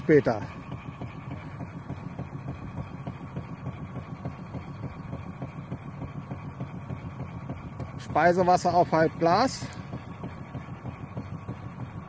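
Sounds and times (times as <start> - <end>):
model steam engine running: 0.0 - 12.0.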